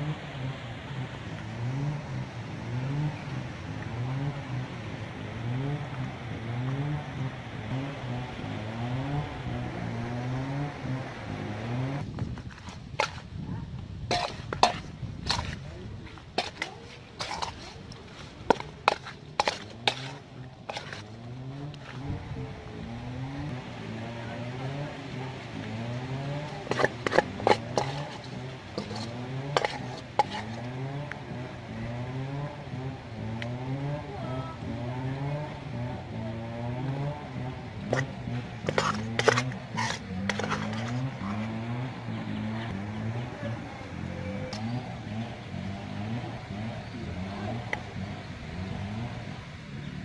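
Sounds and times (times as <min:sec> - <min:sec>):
engine accelerating: 0:00.0 - 0:12.3, 0:17.2 - 0:50.0.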